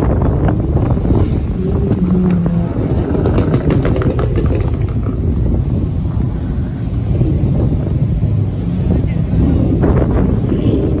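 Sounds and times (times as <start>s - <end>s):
engine crackles: 0.0s - 11.0s.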